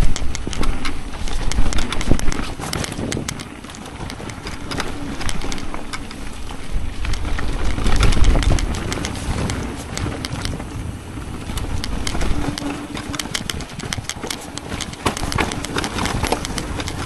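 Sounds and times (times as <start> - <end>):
bike rattling clicks: 0.0 - 17.0
bike tyres crunching over stones: 0.0 - 17.0.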